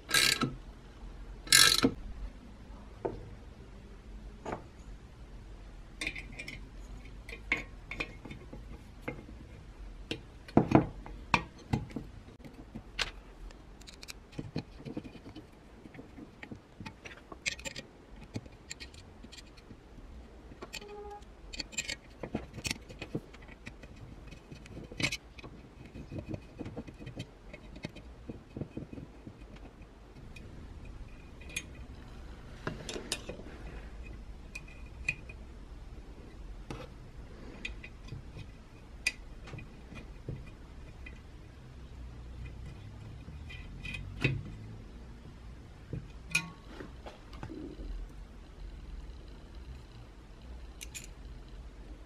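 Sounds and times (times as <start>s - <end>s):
small metal clicks and scrapes: 0.0s - 0.6s, 1.5s - 2.0s, 6.0s - 35.4s, 36.3s - 45.2s, 45.8s - 52.0s.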